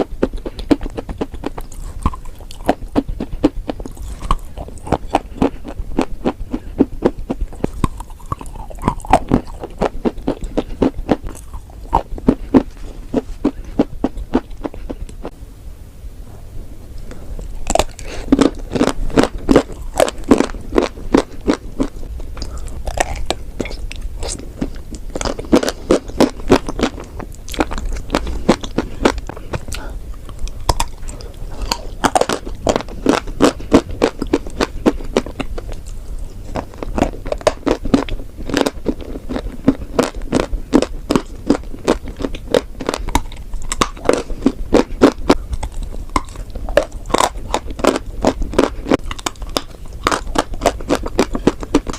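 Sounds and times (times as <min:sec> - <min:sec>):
dry crunching of chewing: 0:00.0 - 0:15.3, 0:17.4 - 0:51.9.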